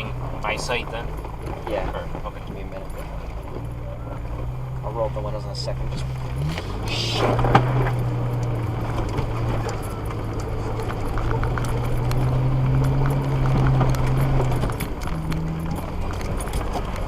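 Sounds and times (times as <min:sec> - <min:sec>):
car engine pulling at low speed: 0:00.0 - 0:17.0
knocks and clicks of bumping car: 0:00.0 - 0:17.0.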